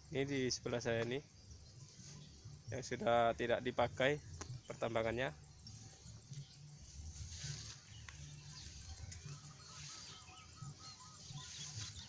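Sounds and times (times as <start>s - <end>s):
bird calls: 0.0s - 12.0s.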